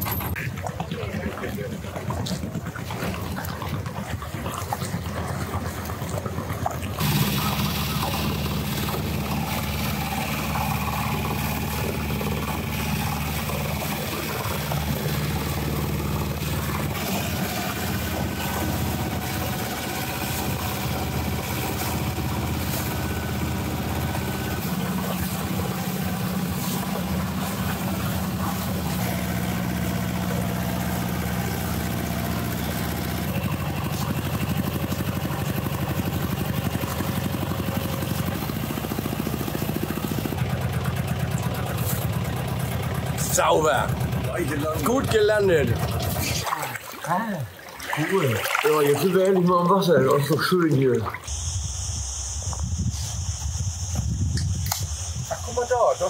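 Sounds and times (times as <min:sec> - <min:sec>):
water rushing: 0:00.0 - 0:51.4
small diesel boat engine: 0:00.0 - 0:52.4.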